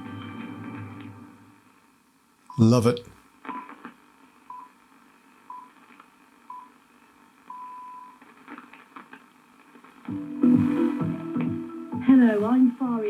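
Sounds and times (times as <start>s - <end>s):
radio reception crackles: 2.5s - 13.0s.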